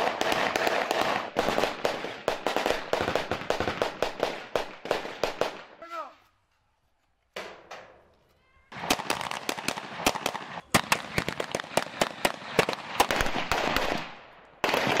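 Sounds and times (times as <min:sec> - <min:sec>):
rifle shots echoing: 0:00.0 - 0:05.8, 0:08.7 - 0:15.0.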